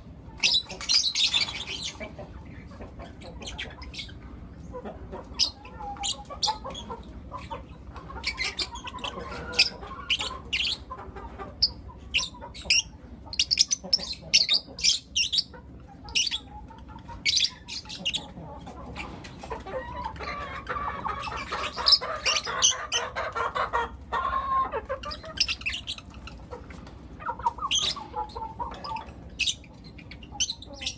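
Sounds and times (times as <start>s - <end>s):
lovebirds chirping: 0.3s - 11.0s, 11.6s - 23.5s, 24.2s - 30.9s.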